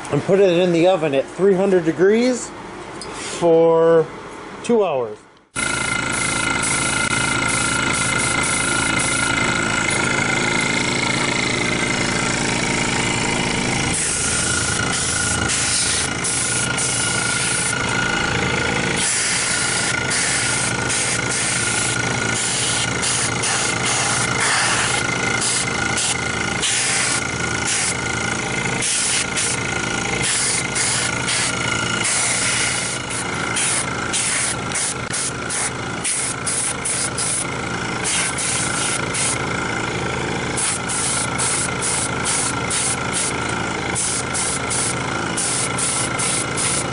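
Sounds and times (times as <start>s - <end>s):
air compressor running: 5.4s - 46.9s
airbrush hissing: 5.6s - 37.4s, 38.0s - 39.4s, 40.5s - 43.4s, 44.0s - 46.9s.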